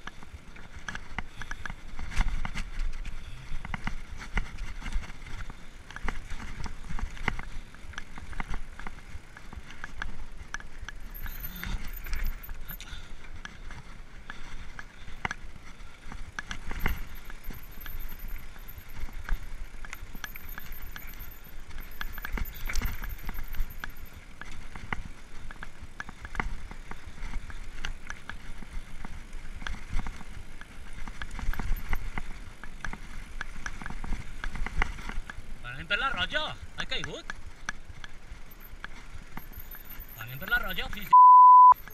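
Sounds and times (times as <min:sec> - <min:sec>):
bike frame rattling and clattering: 0:00.2 - 0:35.7, 0:36.7 - 0:41.1.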